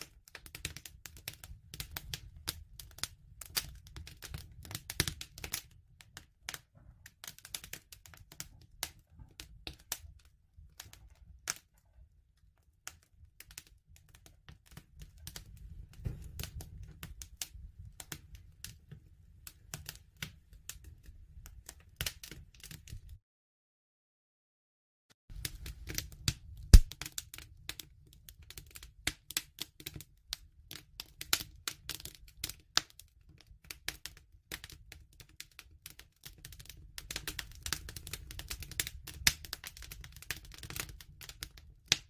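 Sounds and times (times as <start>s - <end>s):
wood fire crackling: 0.0s - 23.2s, 25.3s - 42.0s.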